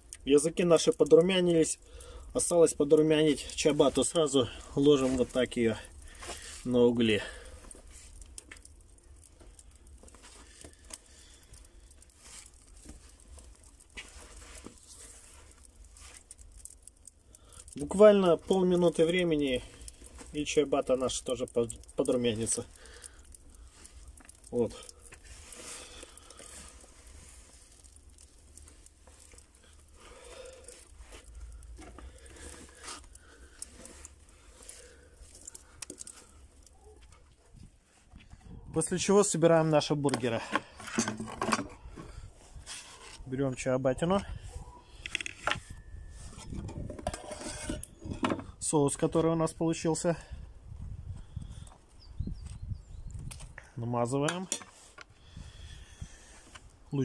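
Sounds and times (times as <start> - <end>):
embers crackling and ticking: 0.0 - 57.0.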